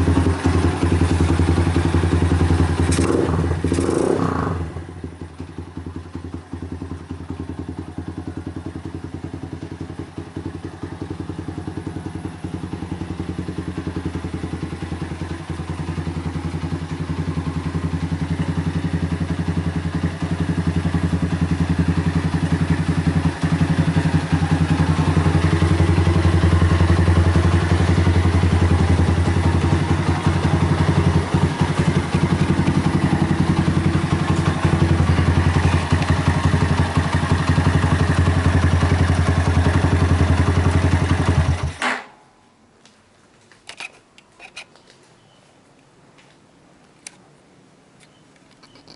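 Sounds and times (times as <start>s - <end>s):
motorcycle engine idling: 0.0s - 41.8s.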